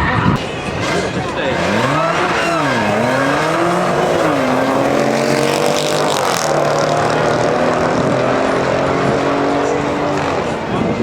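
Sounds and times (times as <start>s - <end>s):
car engine revving hard: 0.4s - 11.0s.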